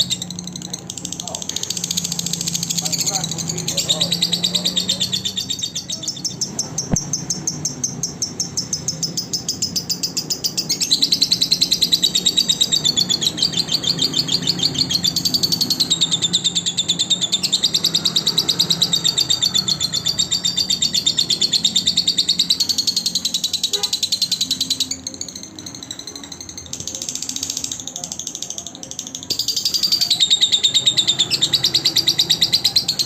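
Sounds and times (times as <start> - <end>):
lovebird chattering trill: 0.0 - 33.0.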